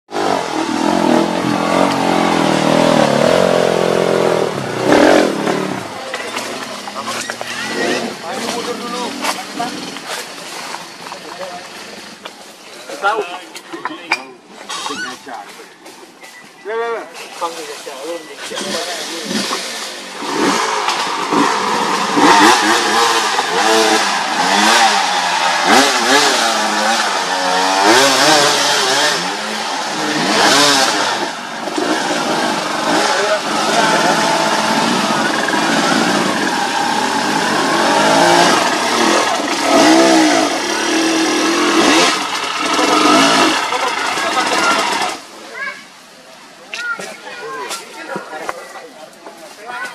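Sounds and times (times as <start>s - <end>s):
dirt bike engines revving: 0.1s - 49.9s.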